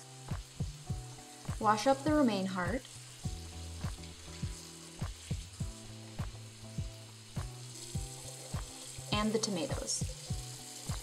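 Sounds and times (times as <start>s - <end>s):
background music with beat: 0.0s - 11.0s
tap water running into colander: 1.4s - 11.0s.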